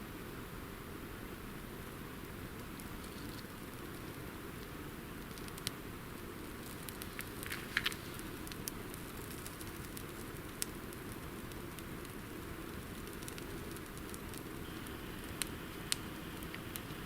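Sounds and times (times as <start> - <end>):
campfire hissing: 0.0 - 17.0
fire pops and crackles: 2.3 - 17.0.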